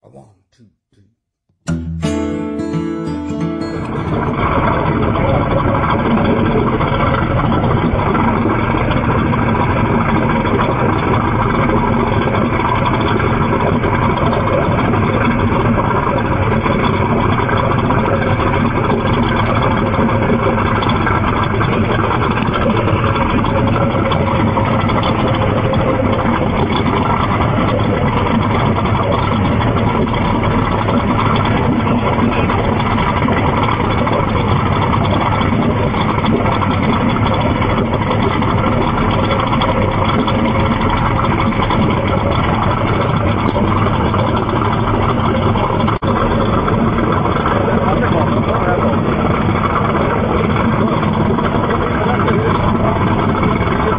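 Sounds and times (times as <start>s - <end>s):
boat engines running at speed: 3.6s - 53.9s
rushing wind and water: 3.9s - 53.9s.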